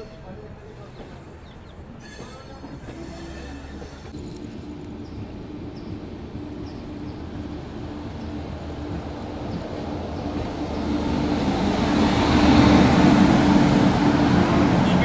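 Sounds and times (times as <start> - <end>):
oncoming electric locomotive: 0.0 - 15.0.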